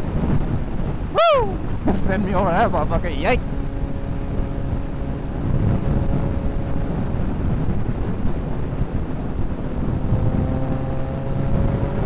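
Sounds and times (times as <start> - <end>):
motorcycle engine drone: 0.0 - 12.0
wind buffeting microphone: 0.0 - 12.0.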